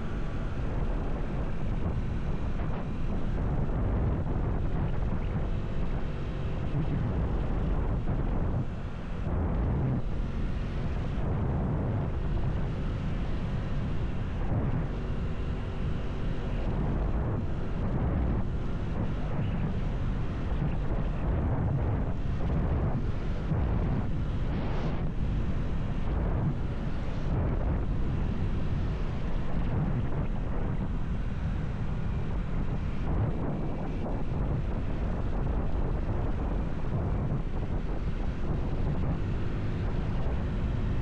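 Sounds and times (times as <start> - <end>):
motorcycle engine running: 0.0 - 41.0
wind rumble on microphone: 0.0 - 41.0.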